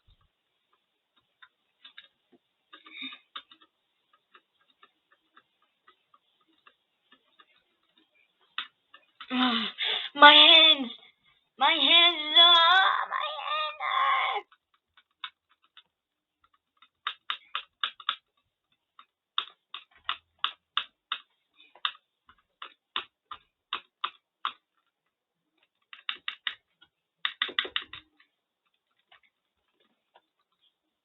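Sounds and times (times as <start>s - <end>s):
computer mouse clicks: 0.1s - 9.3s, 14.4s - 30.8s.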